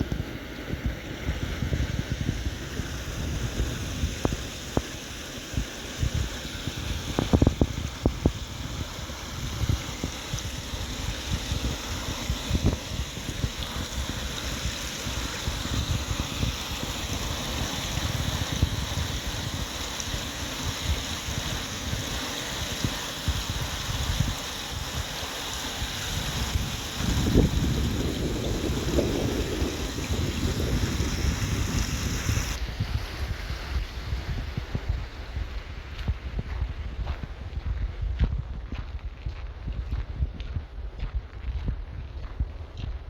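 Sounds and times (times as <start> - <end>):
rushing white water: 0.0 - 35.9
wind buffeting microphone: 0.0 - 43.0.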